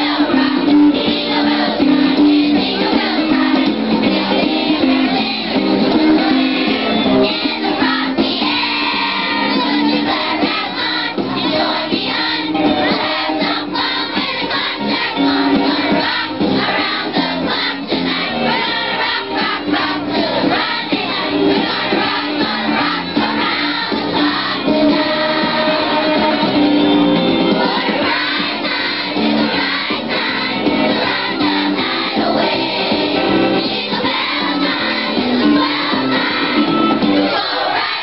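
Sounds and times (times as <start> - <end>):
children's choir singing: 0.0 - 38.0.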